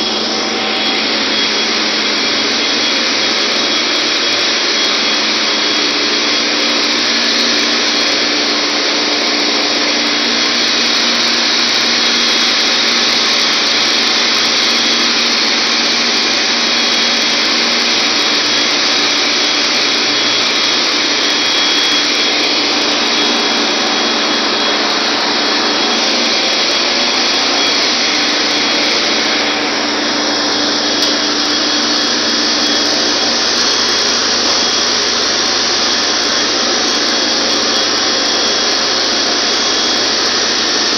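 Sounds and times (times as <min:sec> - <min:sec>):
engine room machinery hum: 0:00.0 - 0:40.9
high whine: 0:00.0 - 0:40.9.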